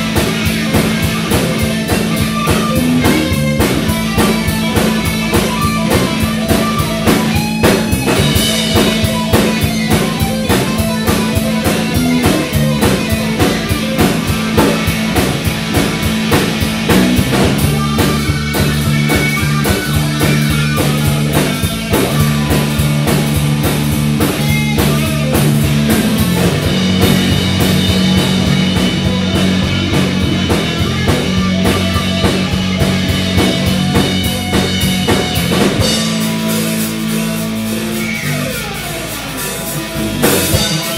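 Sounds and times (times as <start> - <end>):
bass guitar notes: 0.0 - 40.9
driving drum beat: 0.0 - 40.9
electric guitar: 0.0 - 40.9.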